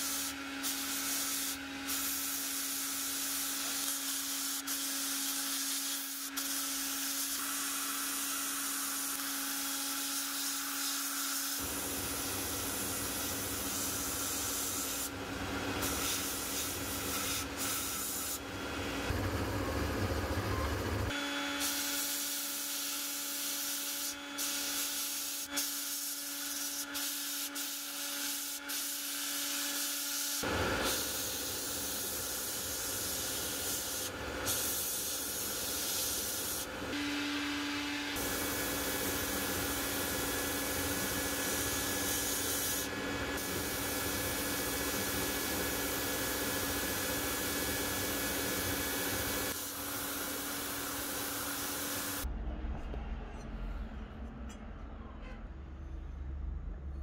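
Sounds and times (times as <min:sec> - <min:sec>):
sandblasting nozzle hissing: 0:00.0 - 0:19.1, 0:21.6 - 0:52.3.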